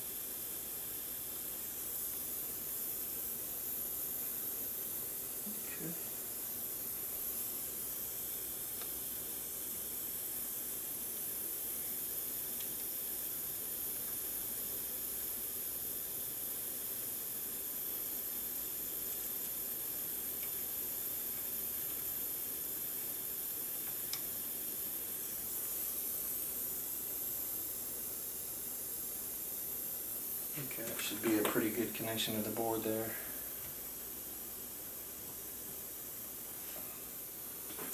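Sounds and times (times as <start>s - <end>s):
high-pitched hiss: 0.0s - 37.9s.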